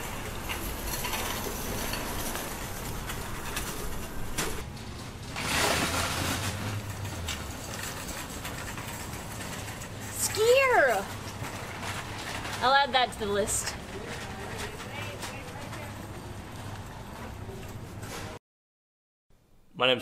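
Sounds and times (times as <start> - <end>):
distant traffic: 0.0 - 18.2.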